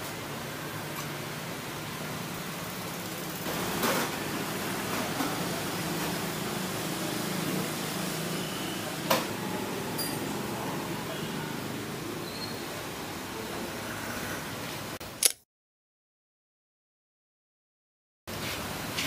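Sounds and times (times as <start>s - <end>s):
small shop background noise: 0.0s - 15.4s, 18.3s - 19.0s.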